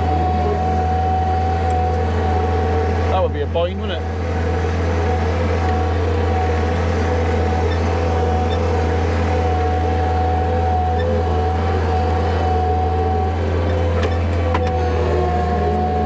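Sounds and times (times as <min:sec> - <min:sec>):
engine whine: 0:00.0 - 0:16.0
tractor diesel engine droning: 0:00.0 - 0:16.0.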